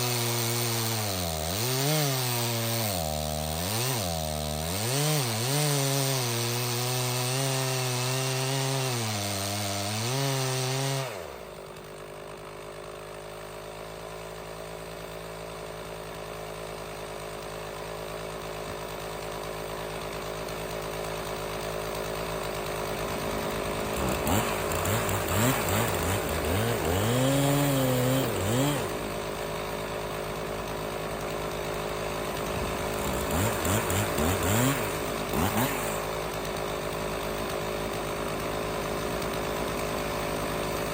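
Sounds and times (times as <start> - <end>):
chainsaw cutting and revving: 0.0 - 40.9.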